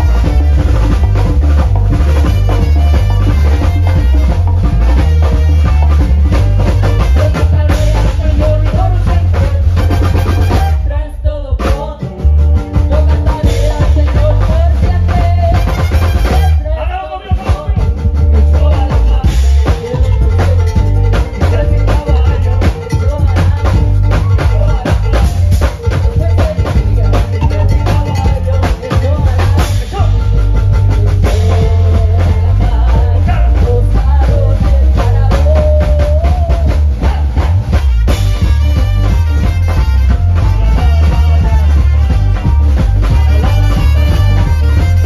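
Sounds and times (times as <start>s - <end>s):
samba percussion ensemble: 0.0s - 10.9s, 11.6s - 45.0s
melody over drumming: 0.0s - 45.0s.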